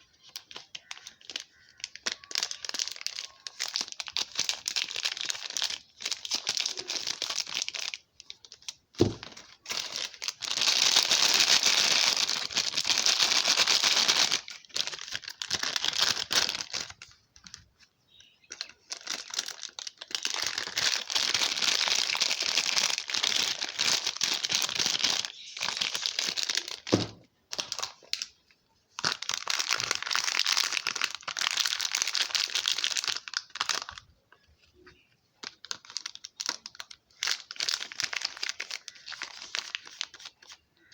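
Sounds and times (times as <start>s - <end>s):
wrapping crinkling and tearing: 0.0s - 34.8s, 35.4s - 40.9s.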